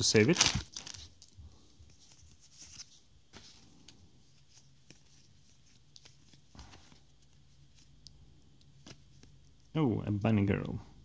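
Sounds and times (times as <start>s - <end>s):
cards rustling: 0.0s - 9.7s.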